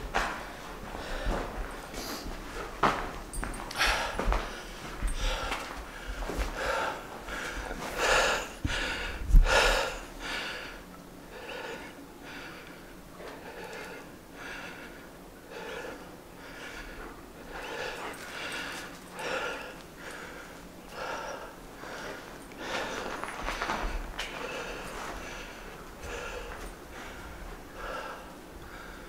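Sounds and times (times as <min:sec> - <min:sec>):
person breathing hard: 0:00.6 - 0:02.7, 0:03.4 - 0:29.0.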